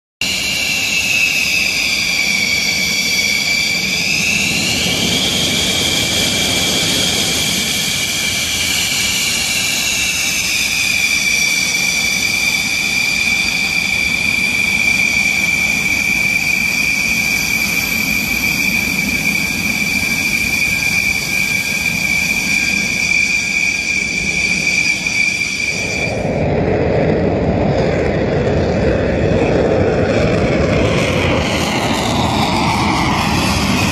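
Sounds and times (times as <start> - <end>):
deep rushing jet roar: 0.2 - 33.9
high-pitched jet whine: 0.2 - 33.9.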